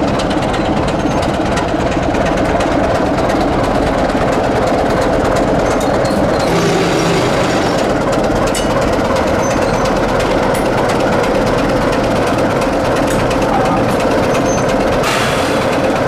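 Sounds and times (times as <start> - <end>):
diesel locomotive running: 0.0 - 16.0
wheels clicking on rails: 0.0 - 16.0.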